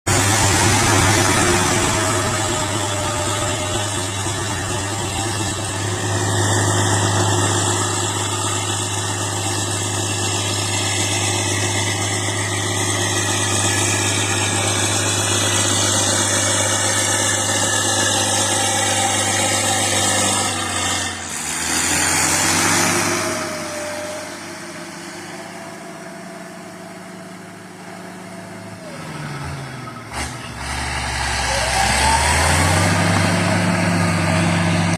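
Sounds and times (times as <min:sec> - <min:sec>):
diesel engine running with clatter: 0:00.0 - 0:34.9.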